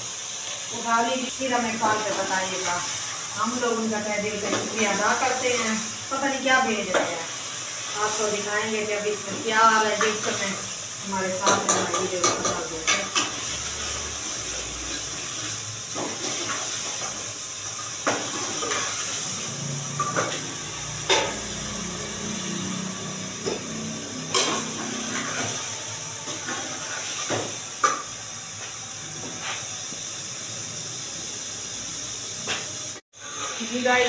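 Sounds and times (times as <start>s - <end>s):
curry sizzling in a pot: 0.0s - 34.0s.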